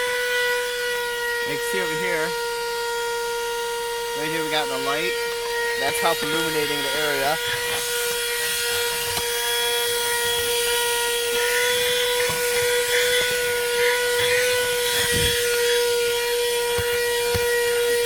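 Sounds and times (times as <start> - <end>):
handheld vacuum motor whine: 0.0 - 18.0.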